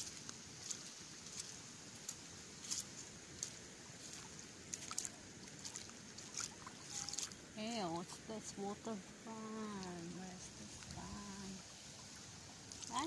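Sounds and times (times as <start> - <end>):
shallow water trickling: 0.0 - 13.0.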